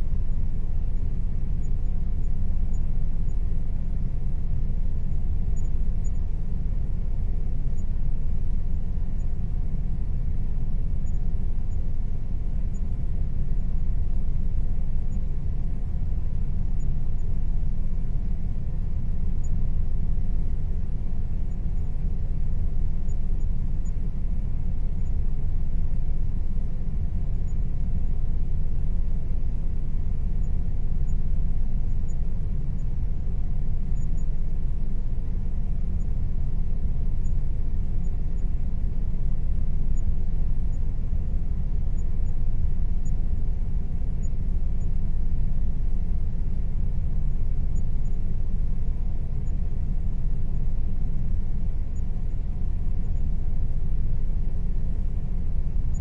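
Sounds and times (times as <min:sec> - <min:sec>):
air conditioner rumbling: 0:00.0 - 0:56.0
faint steady hum: 0:00.0 - 0:56.0.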